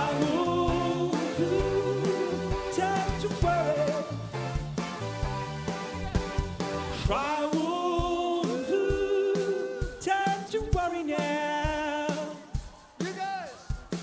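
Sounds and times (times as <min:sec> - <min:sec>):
new-wave band music: 0:00.0 - 0:14.0.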